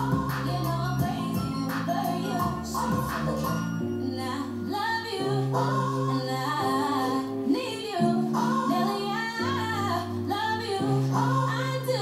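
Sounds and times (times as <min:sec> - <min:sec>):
woman singing: 0:00.0 - 0:12.0.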